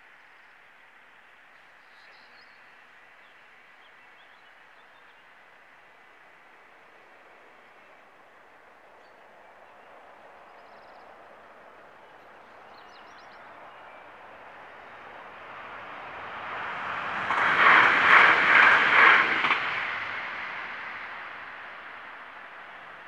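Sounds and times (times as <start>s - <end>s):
train passing at speed: 0.1s - 23.0s.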